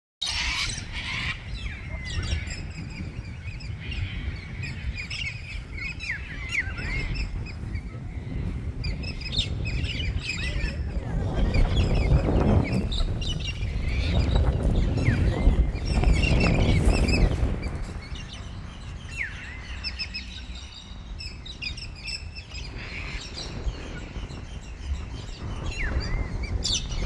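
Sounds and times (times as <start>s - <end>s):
small birds chirping: 0.2s - 27.0s
low rumbling noise: 0.3s - 27.0s.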